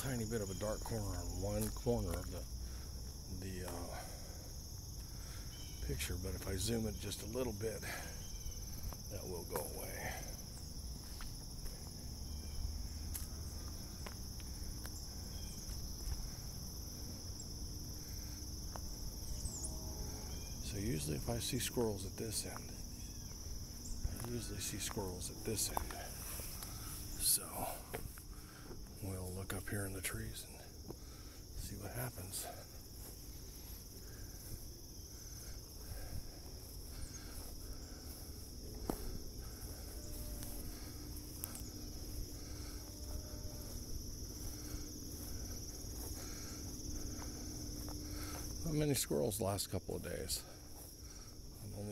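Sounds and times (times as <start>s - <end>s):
insects chirping chorus: 0.0s - 51.9s.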